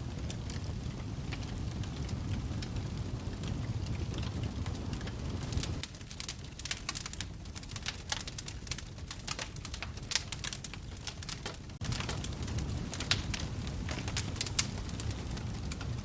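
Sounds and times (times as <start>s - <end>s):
low rumble of flame: 0.0s - 16.0s
wood fire crackling and popping: 0.0s - 16.0s.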